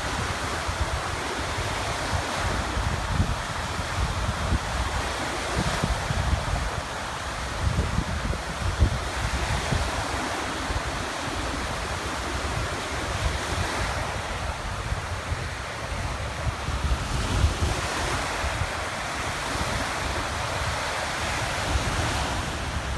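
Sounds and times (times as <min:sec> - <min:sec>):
small waves breaking on shore: 0:00.0 - 0:22.9
wind buffeting microphone: 0:00.0 - 0:22.9.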